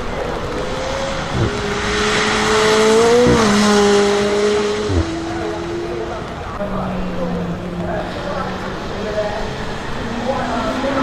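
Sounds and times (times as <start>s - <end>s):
car engine accelerating hard: 0.0s - 11.0s
car engine upshifts: 0.0s - 11.0s.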